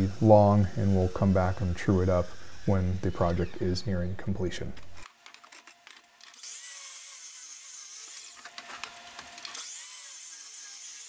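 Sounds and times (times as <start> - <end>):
miter saw cutting wood: 0.0 - 11.0.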